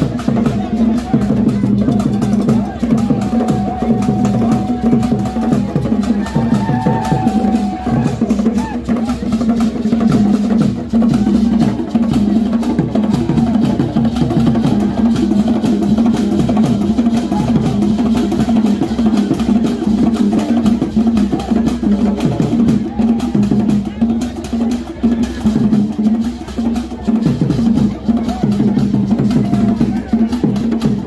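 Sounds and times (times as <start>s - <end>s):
fast drumming music: 0.0s - 31.0s.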